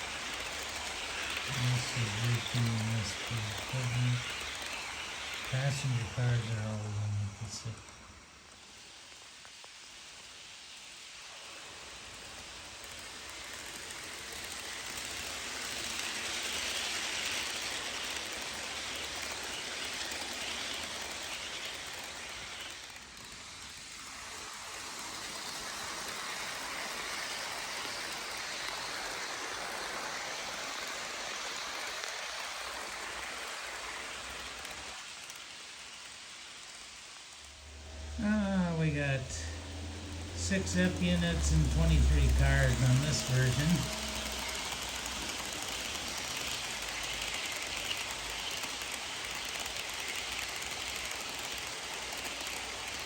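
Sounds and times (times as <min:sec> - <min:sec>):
model train wheels on rail: 0:00.0 - 0:53.0.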